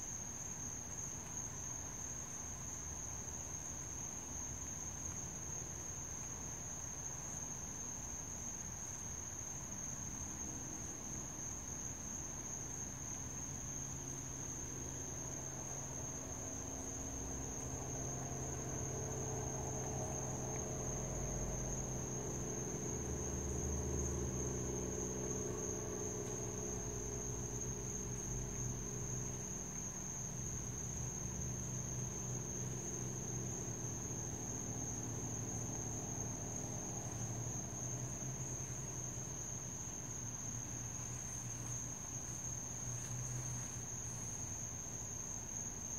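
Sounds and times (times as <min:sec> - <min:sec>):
crickets trilling: 0:00.0 - 0:45.9
low background hum: 0:00.4 - 0:45.9.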